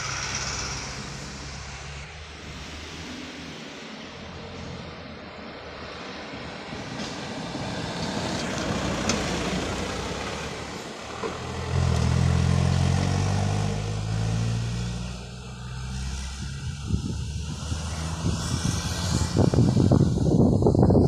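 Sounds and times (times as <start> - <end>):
heavy truck engine passing: 0.0 - 21.0
road traffic passing: 0.0 - 21.0.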